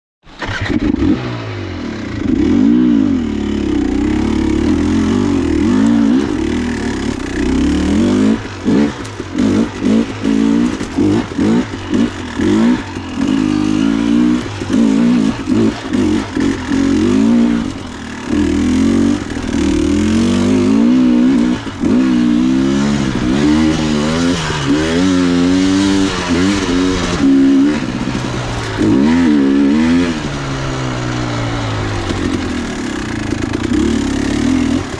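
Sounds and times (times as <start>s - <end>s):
dirt bike engine revving: 0.3s - 34.9s.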